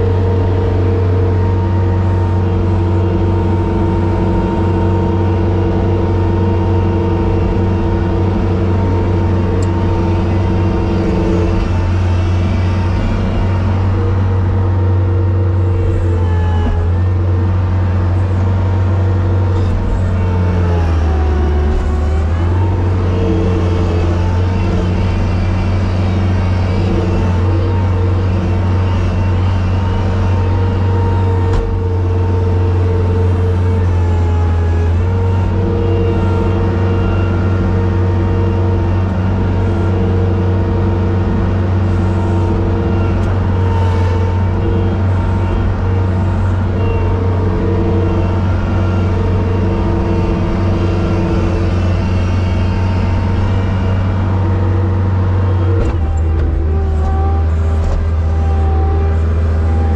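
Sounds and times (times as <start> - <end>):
snow-clearing machine engine running: 0.0 - 59.9.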